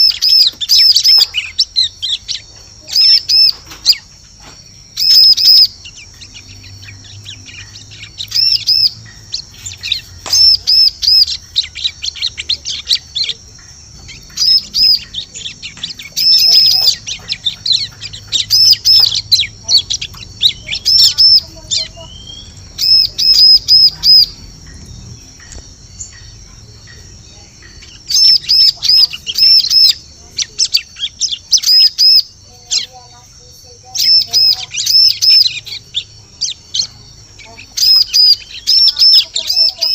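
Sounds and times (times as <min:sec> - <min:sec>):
bird high arched chirps: 0:00.0 - 0:39.9.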